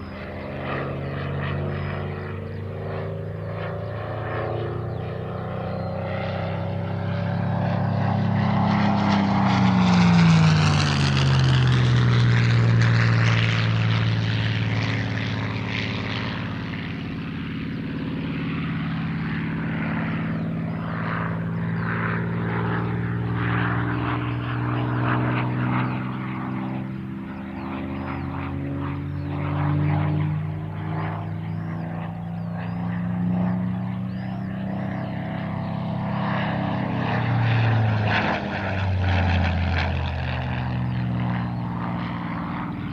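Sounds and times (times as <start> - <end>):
propeller plane engine drone: 0.0 - 42.9.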